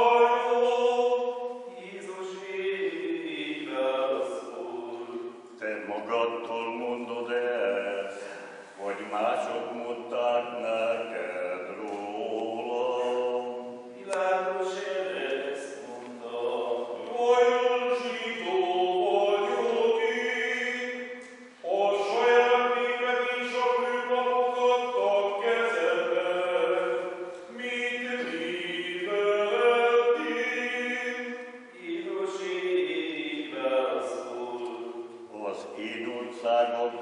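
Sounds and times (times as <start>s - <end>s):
men chanting: 0.0s - 37.0s.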